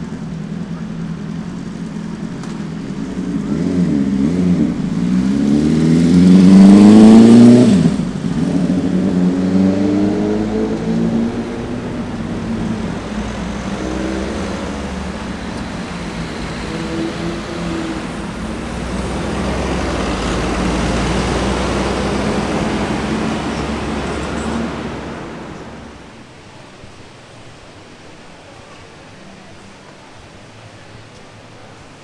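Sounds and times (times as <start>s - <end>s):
bus engine hum: 0.0s - 26.4s
rushing road noise: 0.0s - 32.0s.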